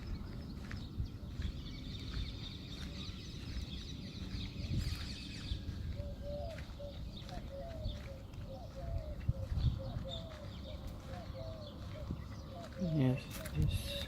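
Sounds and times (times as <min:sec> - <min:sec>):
low-pitched bird calls: 0:00.0 - 0:14.0
small birds chirping chorus: 0:00.0 - 0:14.0.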